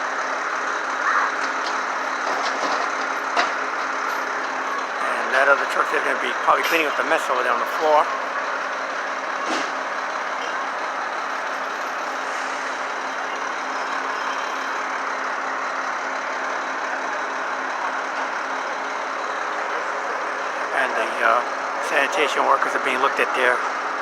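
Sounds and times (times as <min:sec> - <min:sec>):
diesel truck engines idling: 0:00.0 - 0:24.0.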